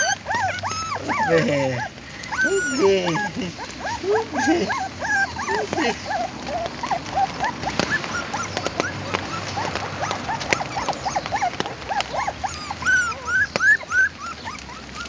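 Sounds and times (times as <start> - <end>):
puppies whimpering and yelping: 0.0 - 15.0.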